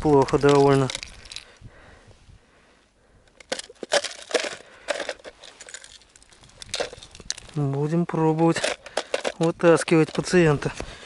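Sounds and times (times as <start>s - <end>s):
ice crunching and crackling: 0.0s - 1.6s, 3.2s - 11.0s.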